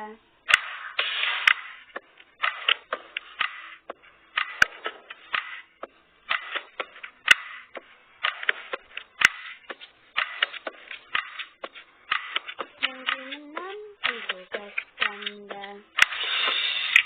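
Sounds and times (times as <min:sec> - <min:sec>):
sharp clicks: 0:00.5 - 0:17.0.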